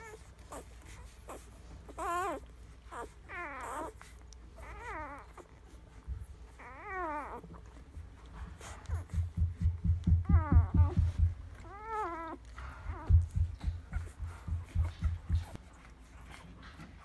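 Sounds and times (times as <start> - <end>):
puppies whimpering and squeaking: 0.0 - 17.0.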